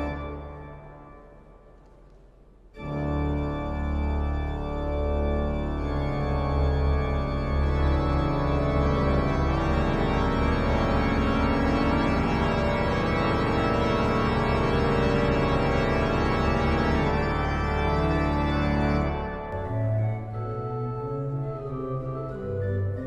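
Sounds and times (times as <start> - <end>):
pipe organ playing: 0.0 - 1.6, 2.8 - 23.0.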